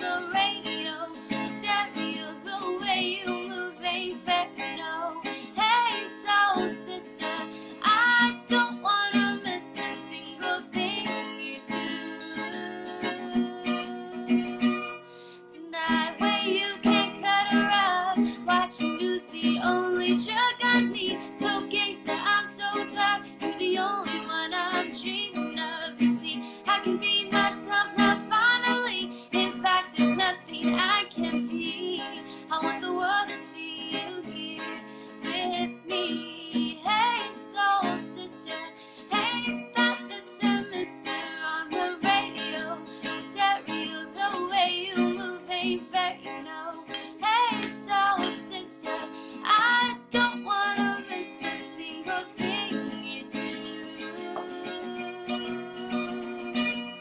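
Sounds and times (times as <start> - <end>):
person singing: 0.0 - 14.9, 15.5 - 56.8
guitar: 0.0 - 57.0.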